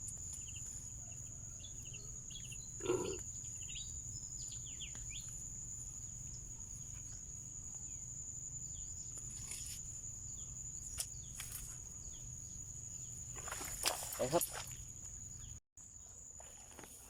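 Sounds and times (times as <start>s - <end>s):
insect chorus trilling: 0.0s - 17.0s
short insect chirps: 0.0s - 17.0s.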